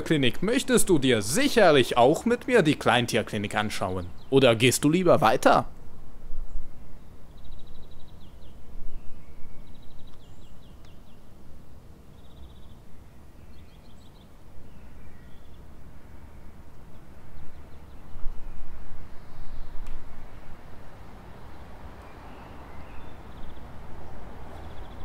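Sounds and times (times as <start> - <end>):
small birds chirping: 0.0 - 5.7, 6.4 - 11.4, 12.1 - 20.1, 20.7 - 25.0.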